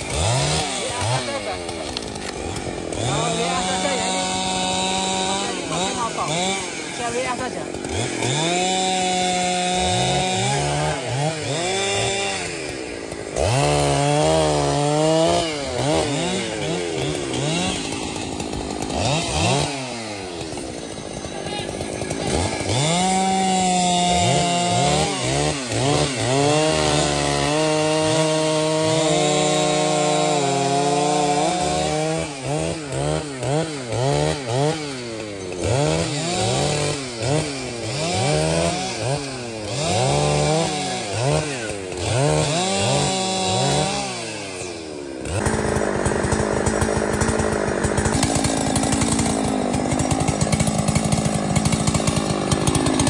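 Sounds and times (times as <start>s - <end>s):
chainsaw engine revving: 0.0s - 53.0s.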